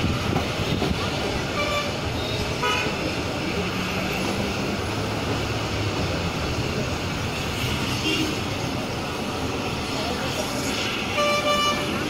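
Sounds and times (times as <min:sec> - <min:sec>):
train running noise from inside coach: 0:00.0 - 0:12.0.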